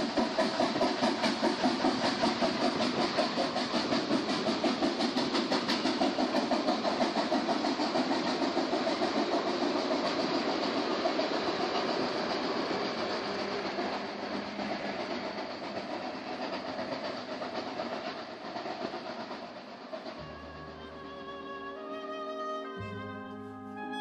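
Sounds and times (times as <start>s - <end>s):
steam locomotive exhaust: 0.0s - 24.0s
train coaches clattering: 0.0s - 24.0s.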